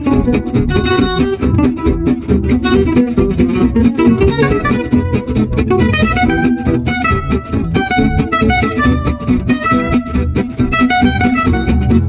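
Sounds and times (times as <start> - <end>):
acoustic guitar plucked and strummed: 0.0 - 12.0.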